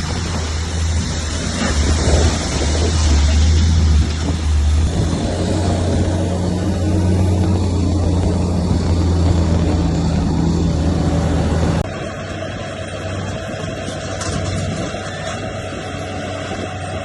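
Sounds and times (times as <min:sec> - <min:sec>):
bulldozer diesel engine: 0:00.0 - 0:17.0
rough machine noise: 0:00.0 - 0:17.0.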